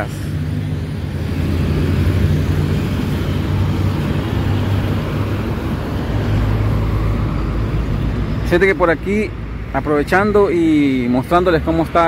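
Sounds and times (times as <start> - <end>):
truck engine rumble: 0.0 - 12.0
tyre noise on road: 0.0 - 12.0.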